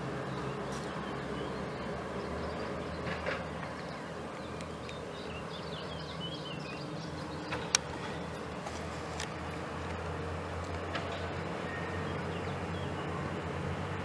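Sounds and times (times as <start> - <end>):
small birds chirping: 0.0 - 10.6, 11.5 - 13.5
distant coach engine drone: 0.0 - 14.0.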